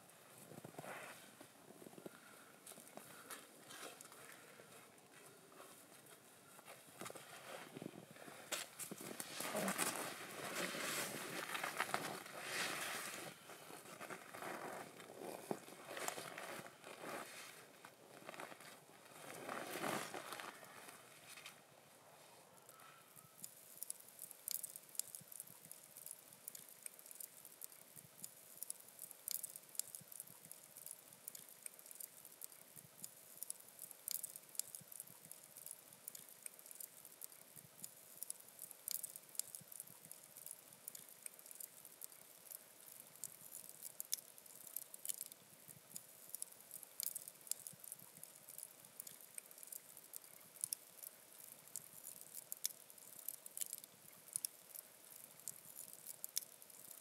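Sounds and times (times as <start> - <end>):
campfire crackling and popping: 0.1 - 5.2, 5.8 - 21.7, 22.6 - 57.0.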